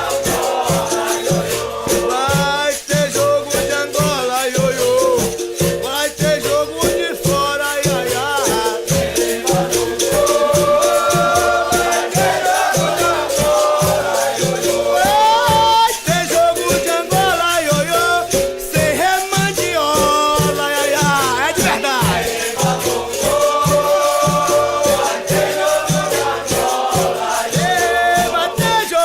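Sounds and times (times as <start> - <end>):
shaken rattle: 0.0 - 29.0
voices singing: 0.0 - 29.0.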